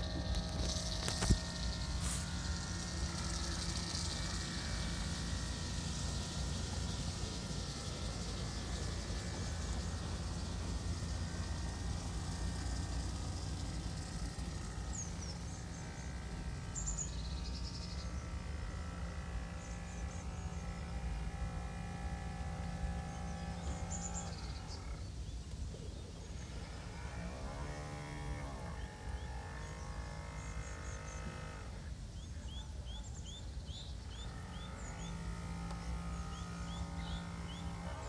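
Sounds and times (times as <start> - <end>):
model boat motor humming: 0.0 - 38.0.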